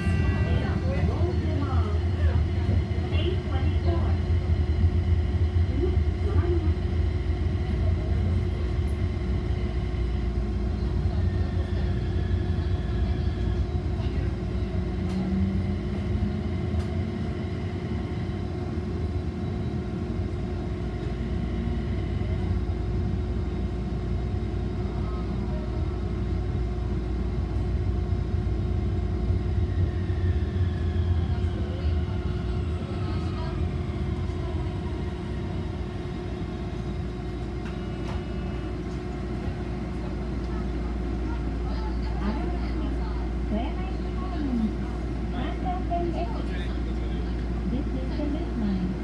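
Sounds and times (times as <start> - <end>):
tram wheels rumbling on rails: 0.0 - 49.0.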